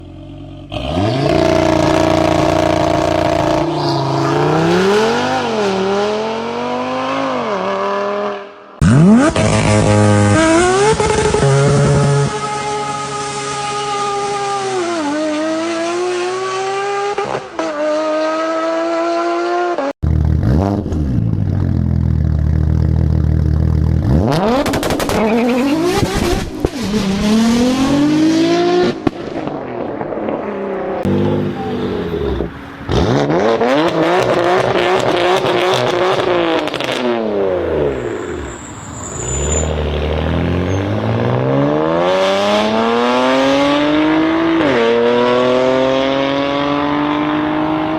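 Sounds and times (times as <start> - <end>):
car engines revving and accelerating: 0.0 - 47.9.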